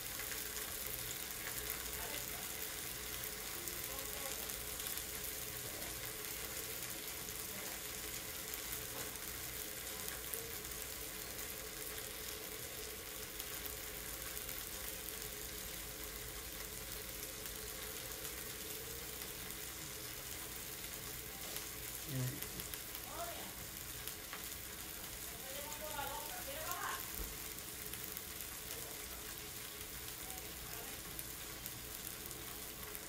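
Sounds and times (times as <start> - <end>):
chicken sizzling in oil: 0.0 - 33.0
faint crackles: 0.0 - 33.0.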